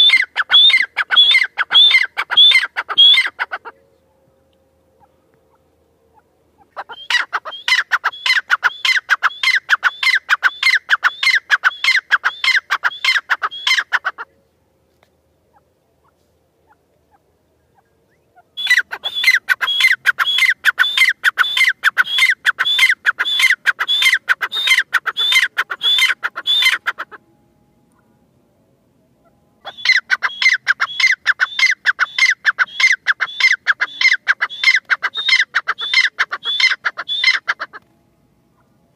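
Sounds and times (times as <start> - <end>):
francolin calling: 0.0 - 4.1, 5.0 - 14.3, 15.5 - 28.1, 29.1 - 37.9.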